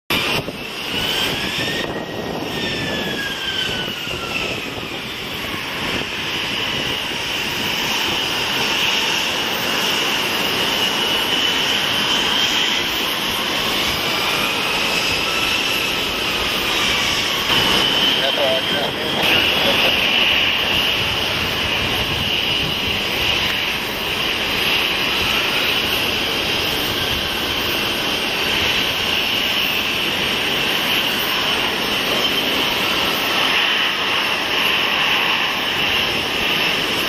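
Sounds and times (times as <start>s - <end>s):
jet engines whining: 0.1s - 37.0s.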